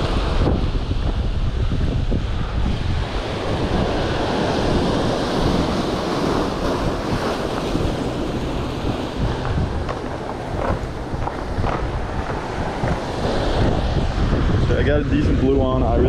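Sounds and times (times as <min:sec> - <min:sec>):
wind buffeting microphone: 0:00.0 - 0:16.0
surf breaking over rocks: 0:02.7 - 0:16.0.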